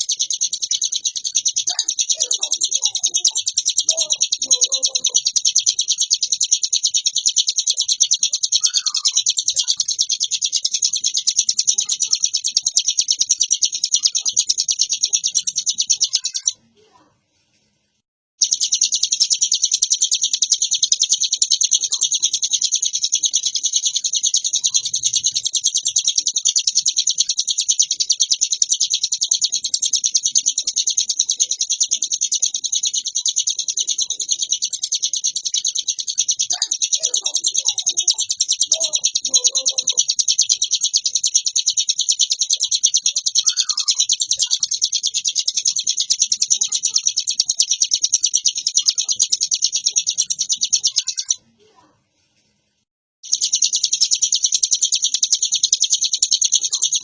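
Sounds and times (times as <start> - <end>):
bird fast chattering song: 0.0 - 17.0, 18.4 - 51.8, 53.2 - 57.0.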